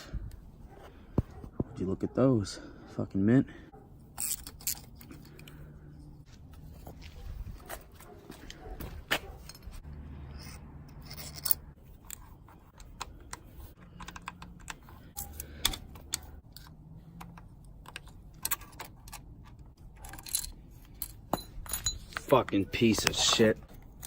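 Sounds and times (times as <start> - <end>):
metal engine parts handled: 3.9 - 24.0.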